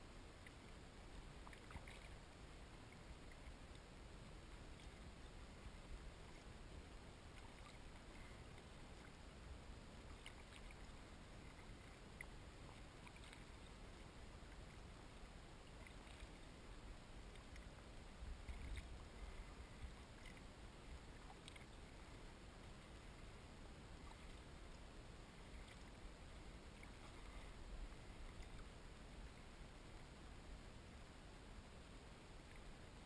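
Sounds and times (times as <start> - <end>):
paddle dips and water drips: 0.3 - 30.1.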